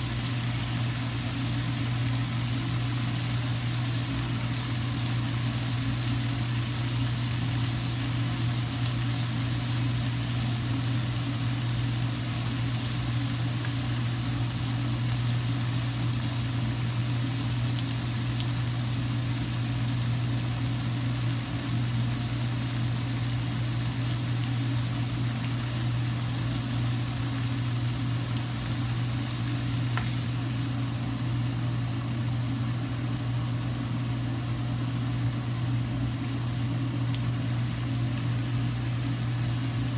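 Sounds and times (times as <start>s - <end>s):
constant low hum: 0.0s - 39.9s
steak sizzling in a frying pan: 0.0s - 39.9s.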